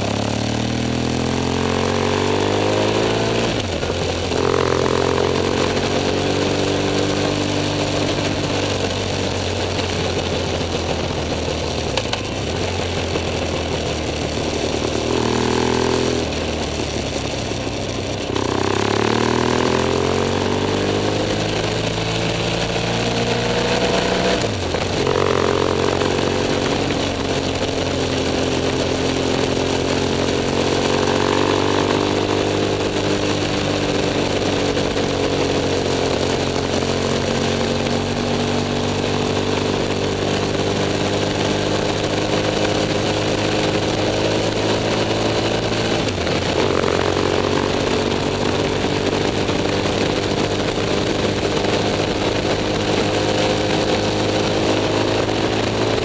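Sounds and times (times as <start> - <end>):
motorcycle engine running: 0.0 - 56.0
wind noise from riding: 0.7 - 56.0.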